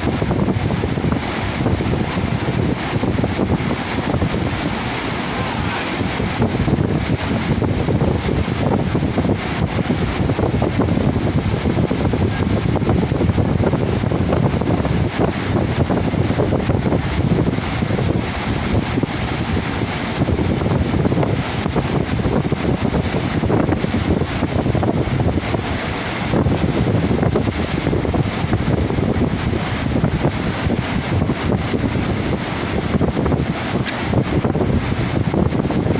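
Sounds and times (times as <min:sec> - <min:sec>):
rush of pumped water: 0:00.0 - 0:35.9
wind buffeting microphone: 0:00.0 - 0:35.9.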